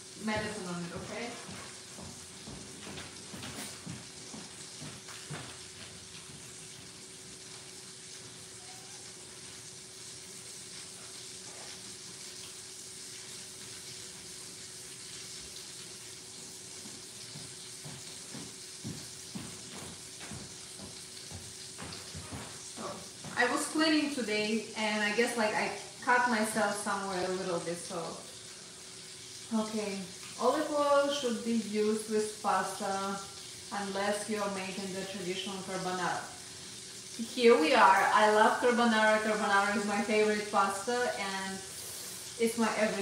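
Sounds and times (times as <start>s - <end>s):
faint steady hum: 0.0s - 43.0s
steak sizzling in a pan: 1.6s - 43.0s.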